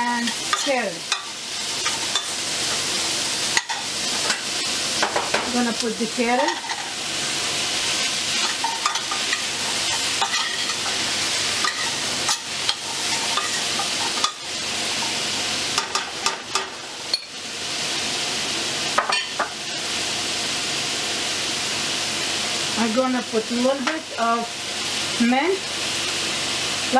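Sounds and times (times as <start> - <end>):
vegetables sizzling in oil: 0.0 - 26.9.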